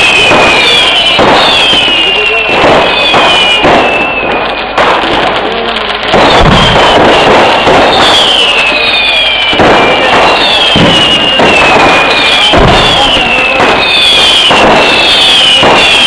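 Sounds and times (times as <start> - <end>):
descending firework whistles: 0.0 - 16.0
firework bangs: 0.0 - 16.0
heavy firework boom: 0.0 - 16.0.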